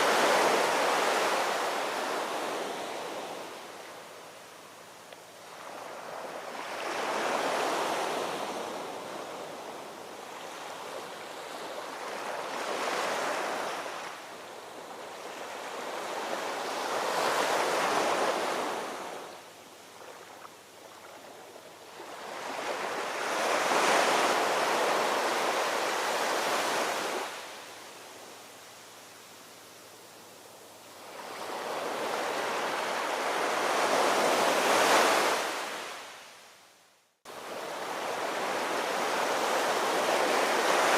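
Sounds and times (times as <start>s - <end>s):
ocean waves washing onto shore: 0.0s - 36.4s, 37.3s - 40.9s.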